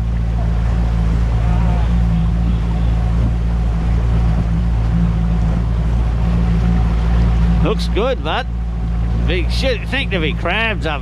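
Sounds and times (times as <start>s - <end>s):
outboard motor drone: 0.0s - 11.0s.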